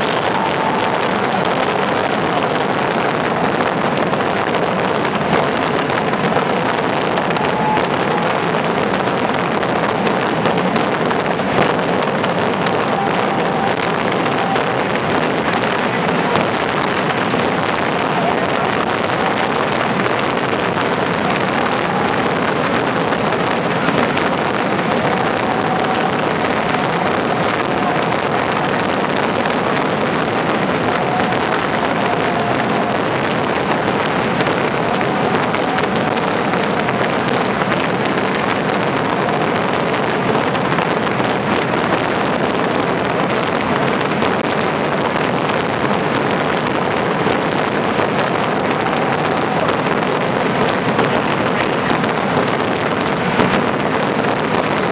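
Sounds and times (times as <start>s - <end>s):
fireworks bursting and crackling: 0.0s - 54.9s.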